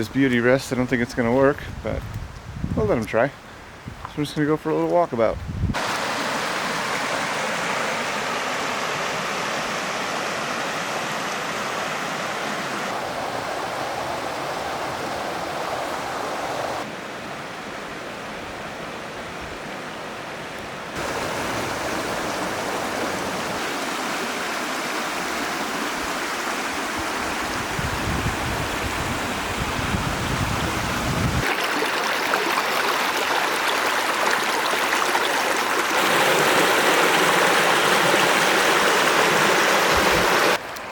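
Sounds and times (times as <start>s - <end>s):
stream water rushing: 5.7s - 40.9s.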